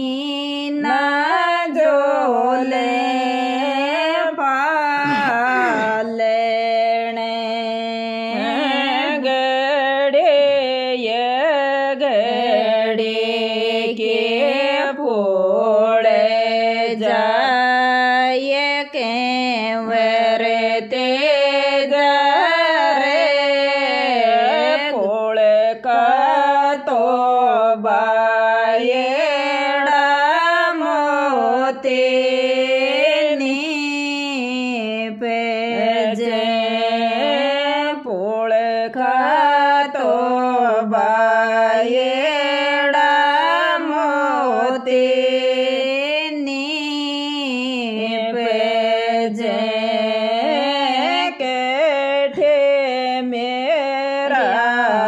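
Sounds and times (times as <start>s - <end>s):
woman singing folk song: 0.0s - 55.0s.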